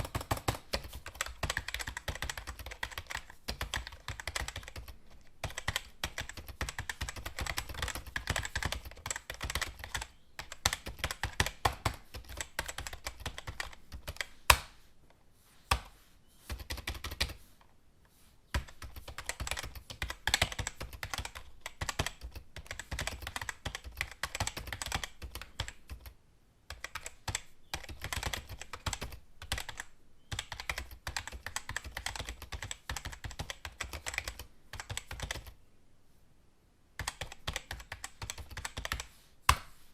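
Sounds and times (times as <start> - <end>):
keyboard typing: 0.0 - 14.7, 16.5 - 17.4, 18.5 - 35.6, 37.0 - 39.1.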